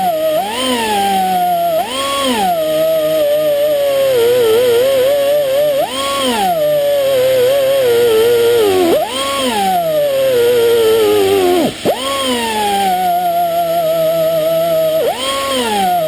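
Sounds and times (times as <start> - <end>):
pneumatic wire brush whining: 0.0 - 16.0.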